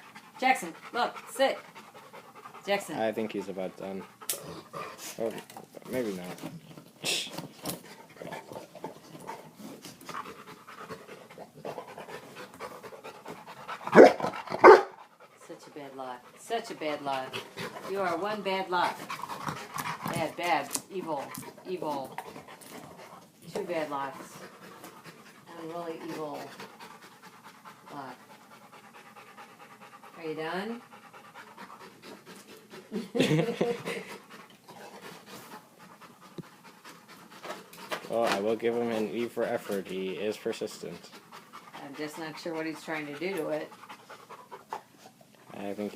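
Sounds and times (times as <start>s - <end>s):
dog panting: 0.0s - 45.9s.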